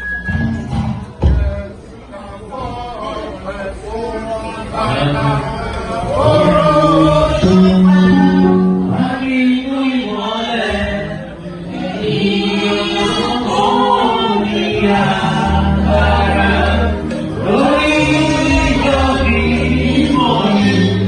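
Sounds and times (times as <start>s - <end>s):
choir singing a hymn: 1.3s - 21.0s.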